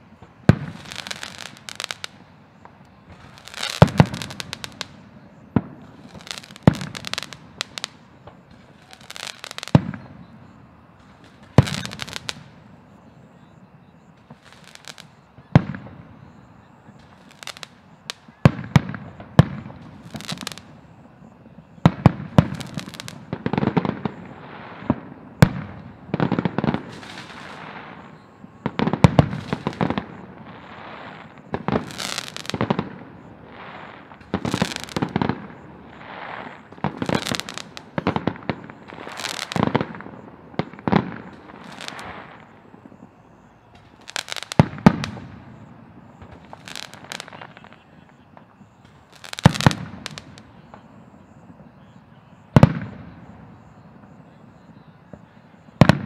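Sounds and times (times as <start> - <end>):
fireworks bangs: 0.0 - 56.0
fireworks hissing and crackling: 0.0 - 56.0.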